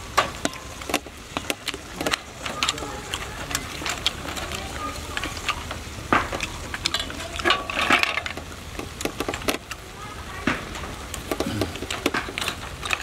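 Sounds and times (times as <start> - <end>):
tongs clicking on snail shells: 0.2 - 13.0.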